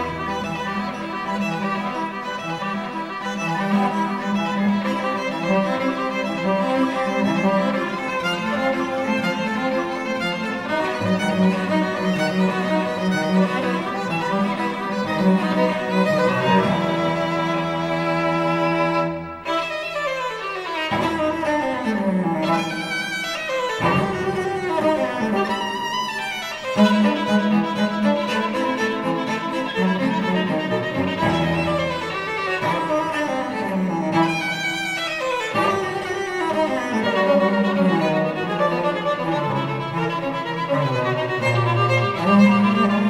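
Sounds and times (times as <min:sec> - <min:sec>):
bowed strings led by violin: 0:00.0 - 0:43.0.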